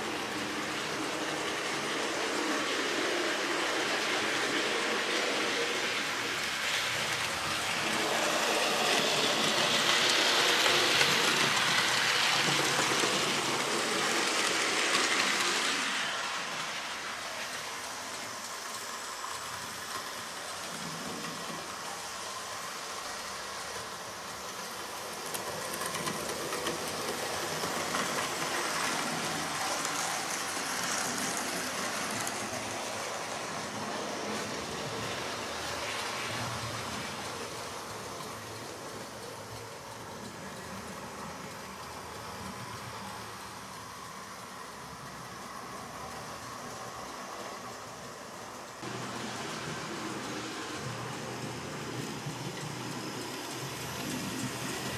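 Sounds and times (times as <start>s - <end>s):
model train running on rails: 0.0s - 54.9s.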